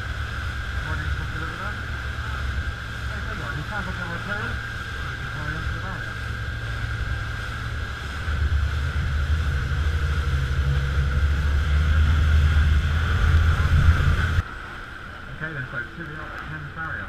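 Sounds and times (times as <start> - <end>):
wind on microphone: 0.0 - 15.4
speedboat engine droning: 0.0 - 17.0
water rushing past hull: 0.0 - 17.0.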